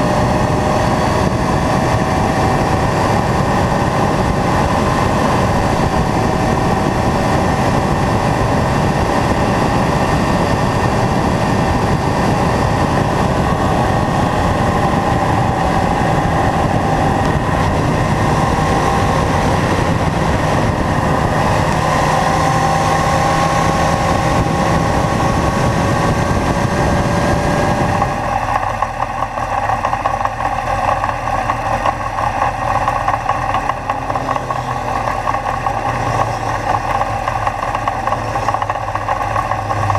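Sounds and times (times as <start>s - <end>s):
motorcycle engine pulling: 0.0s - 39.9s
motorcycles approaching: 0.0s - 39.9s
road and wind noise: 0.0s - 39.9s.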